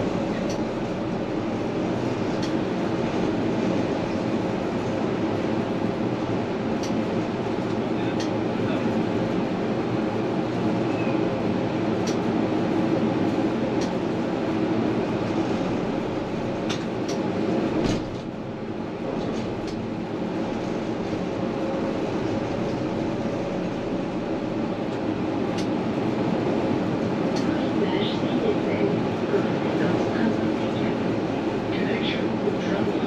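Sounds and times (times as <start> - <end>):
tram motors and wheels humming: 0.0 - 33.0.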